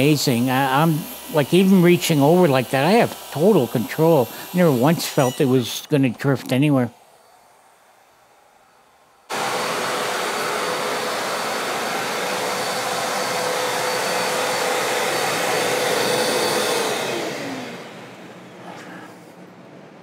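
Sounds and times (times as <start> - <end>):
shop vacuum whining: 0.0 - 20.0.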